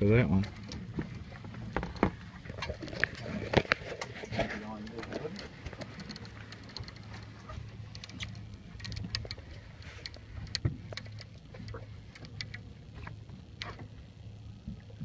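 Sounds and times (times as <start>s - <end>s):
boat engine idling: 0.0s - 15.0s
light clicks and taps: 0.3s - 13.9s.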